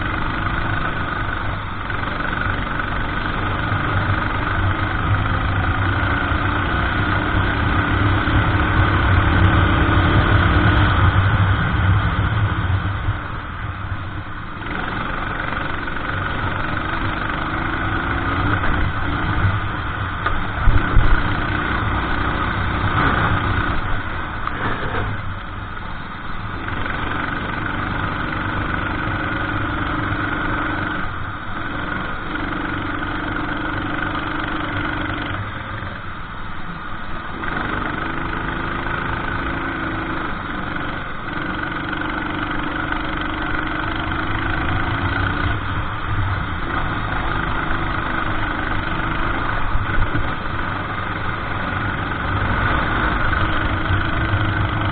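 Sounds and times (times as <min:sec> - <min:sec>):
kart engine revving: 0:00.0 - 0:13.4, 0:14.4 - 0:25.6, 0:26.3 - 0:36.4, 0:37.2 - 0:54.9.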